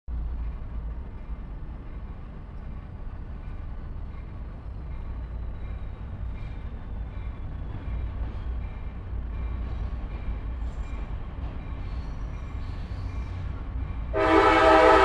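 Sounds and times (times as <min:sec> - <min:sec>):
diesel train rumbling: 0:00.1 - 0:15.0.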